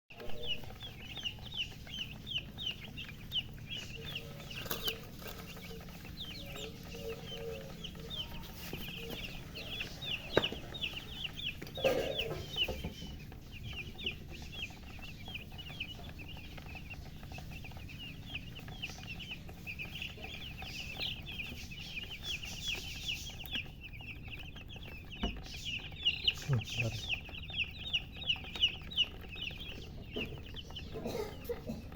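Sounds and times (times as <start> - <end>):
chicks peeping: 0.1 - 31.9.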